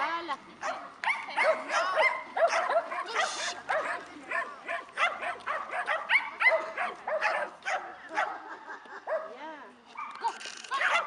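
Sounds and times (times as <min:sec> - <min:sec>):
dog barking and yipping: 0:00.6 - 0:09.4, 0:10.0 - 0:11.0.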